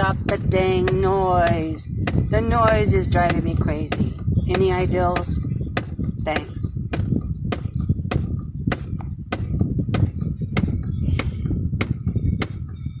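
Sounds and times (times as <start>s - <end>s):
heater blower housing knocking: 0.0s - 12.7s
low rumble: 0.0s - 13.0s.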